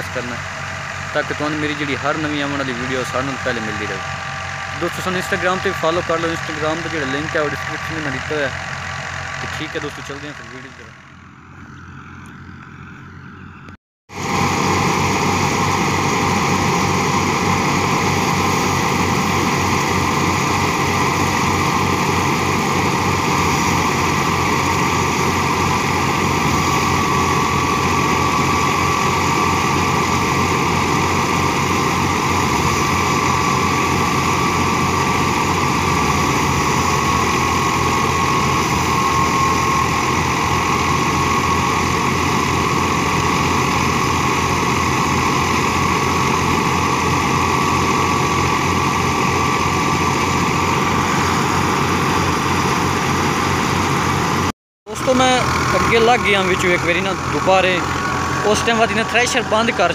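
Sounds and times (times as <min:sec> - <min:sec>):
thresher drum high whine: 0:00.0 - 0:59.9
tractor diesel engine labouring: 0:00.0 - 0:59.9.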